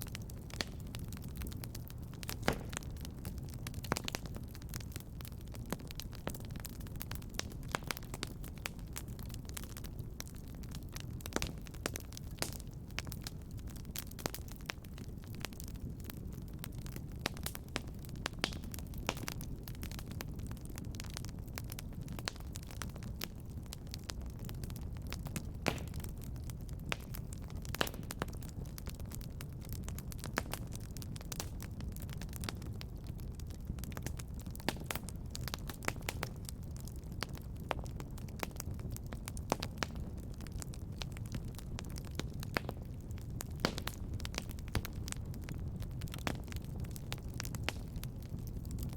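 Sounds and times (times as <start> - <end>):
fire crackling: 0.0 - 48.9.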